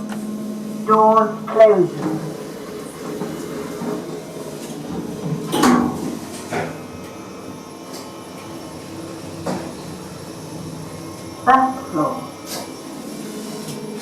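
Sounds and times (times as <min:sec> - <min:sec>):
steady hum of lift: 0:00.0 - 0:14.0
lift doors sliding shut: 0:01.9 - 0:14.0.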